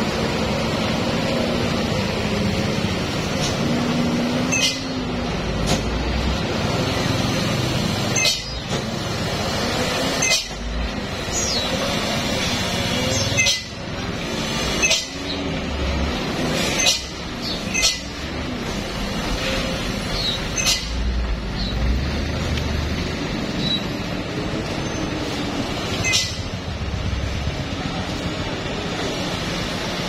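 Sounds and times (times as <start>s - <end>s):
truck engines rumbling: 0.0s - 30.0s.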